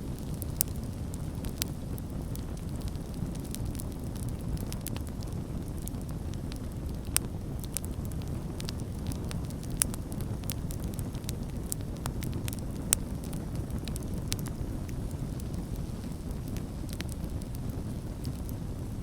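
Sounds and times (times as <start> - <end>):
burning wood crackling and popping: 0.0 - 19.0
low rumble of flames: 0.0 - 19.0.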